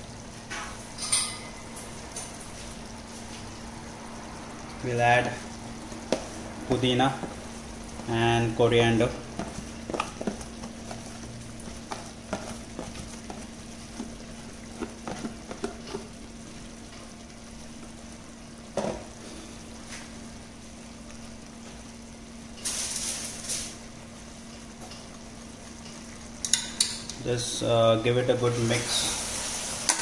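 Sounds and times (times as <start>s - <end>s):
faint sizzling in a pot: 0.0s - 30.0s.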